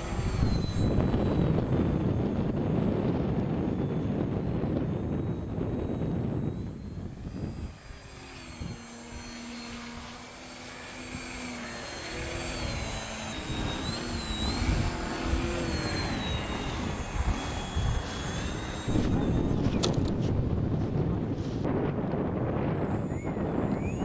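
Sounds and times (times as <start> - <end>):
electric motor and propeller whining: 0.0 - 24.0
wind rumbling on microphone: 0.0 - 24.0.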